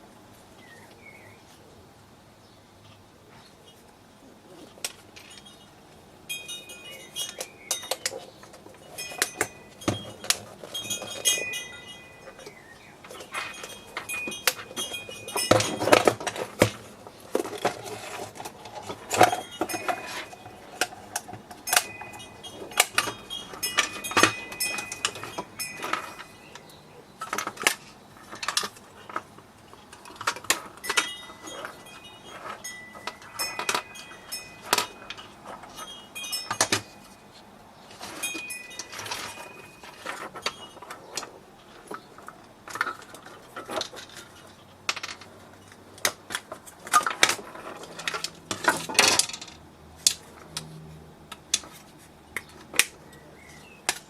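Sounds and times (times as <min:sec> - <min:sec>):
metal parts clicking and clinking: 0:06.3 - 0:37.3, 0:37.9 - 0:50.7.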